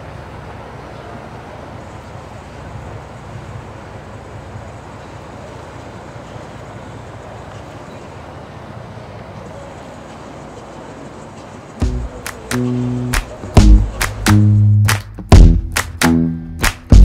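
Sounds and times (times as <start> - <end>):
boat motors rumbling: 0.0 - 16.6.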